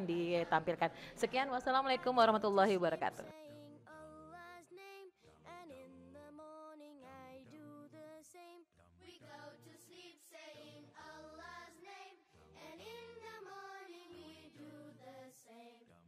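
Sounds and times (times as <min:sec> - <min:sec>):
quiet song with singing voice: 0:00.0 - 0:16.0.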